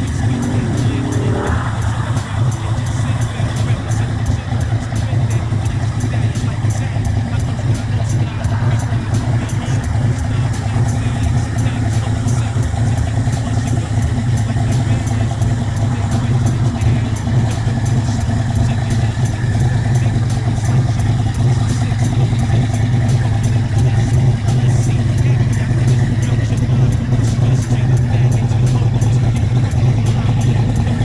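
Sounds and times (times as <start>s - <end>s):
engine idling with loud exhaust: 0.0s - 31.0s.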